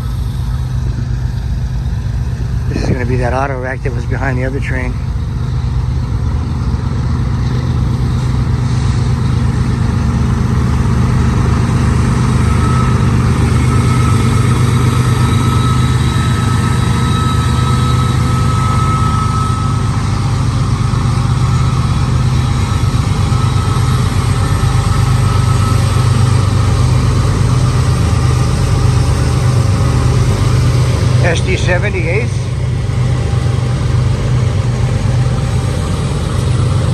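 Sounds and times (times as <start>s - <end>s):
high whine: 0.0s - 36.9s
locomotive engine throb: 0.0s - 36.9s.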